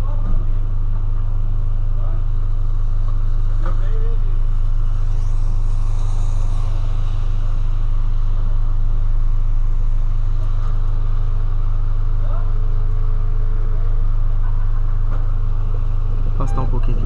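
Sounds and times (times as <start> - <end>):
car engine low hum: 0.0 - 17.0.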